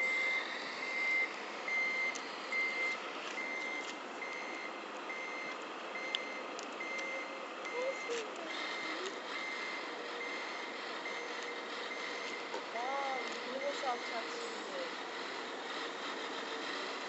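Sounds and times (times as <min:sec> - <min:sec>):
reversing beeper: 0:00.0 - 0:15.0
model truck running noise: 0:00.0 - 0:17.0.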